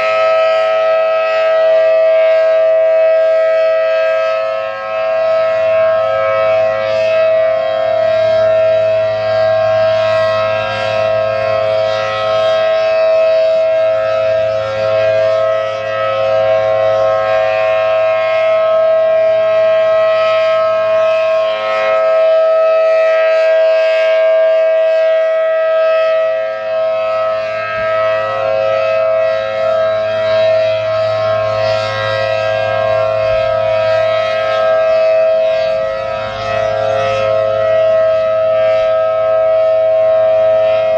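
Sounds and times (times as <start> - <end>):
rotating siren two-note chord: 0.0 - 40.9.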